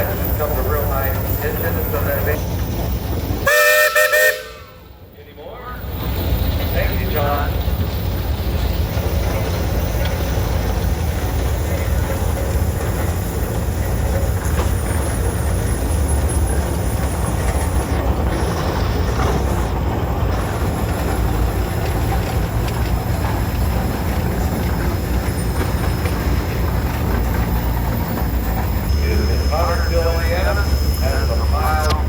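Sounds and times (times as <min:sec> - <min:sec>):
tractor engines rumbling: 0:00.0 - 0:32.0.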